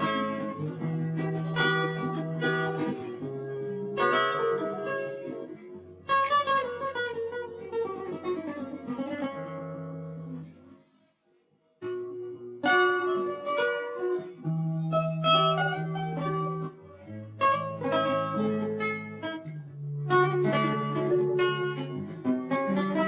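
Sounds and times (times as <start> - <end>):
plucked guitar music: 0.0 - 10.8, 11.8 - 23.0.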